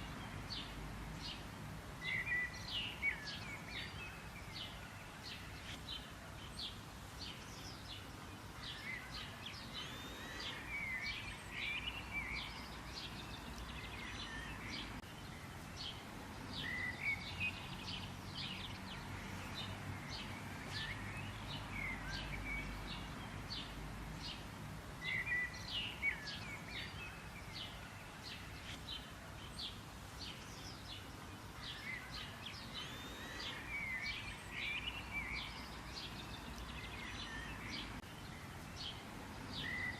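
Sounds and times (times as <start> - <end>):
birds chirping: 0.0 - 39.9
outdoor background hiss: 0.0 - 39.9.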